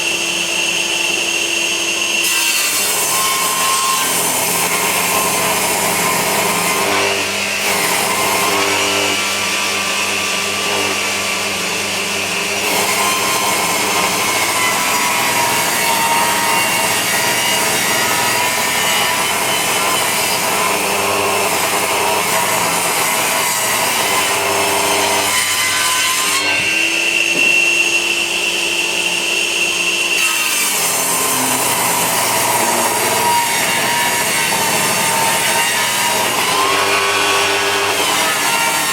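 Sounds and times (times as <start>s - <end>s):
power saw cutting wood: 0.0s - 38.9s.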